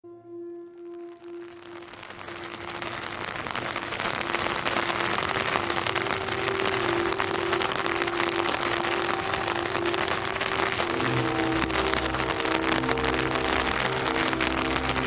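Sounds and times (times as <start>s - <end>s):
rain falling: 0.7s - 15.0s.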